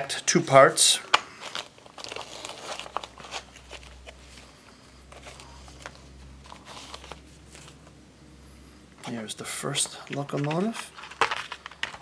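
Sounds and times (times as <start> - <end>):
low steady hum: 0.0 - 12.0
box and packing rustling: 1.0 - 8.0, 9.0 - 12.0.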